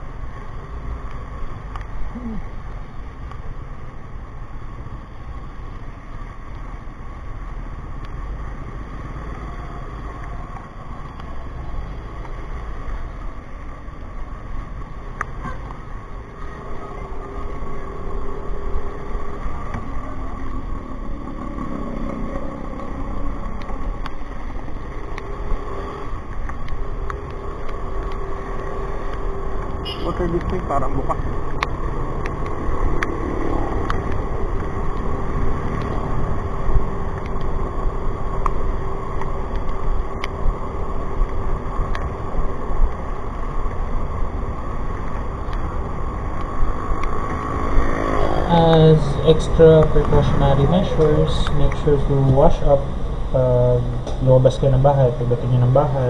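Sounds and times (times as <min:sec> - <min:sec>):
steady engine drone: 0:00.0 - 0:56.0
wind and road noise: 0:00.0 - 0:56.0.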